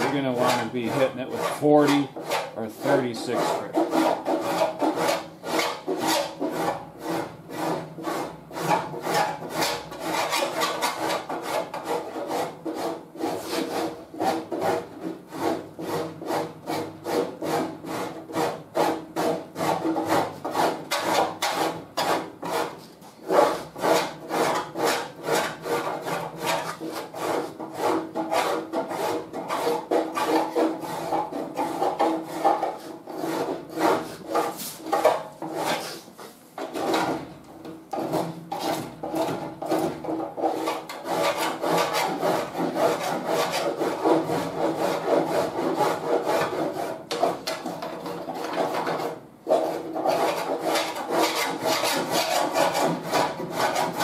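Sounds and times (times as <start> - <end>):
file rasping over body filler: 0.0 - 37.3, 38.0 - 54.0.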